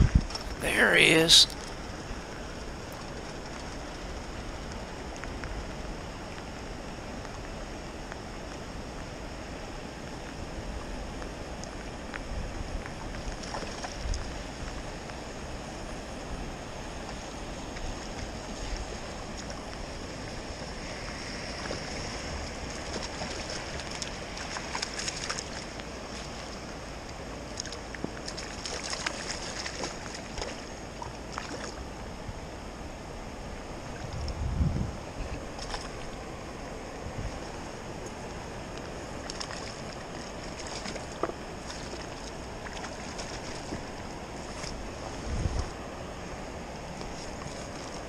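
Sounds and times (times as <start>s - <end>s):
water splashes and ticks: 0.0s - 0.6s, 1.5s - 48.0s
stream rushing: 0.0s - 48.0s.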